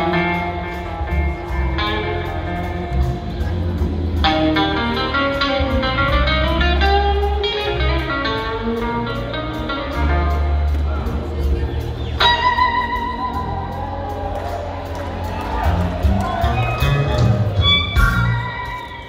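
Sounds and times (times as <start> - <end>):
electric blues guitar jam: 0.0 - 19.0.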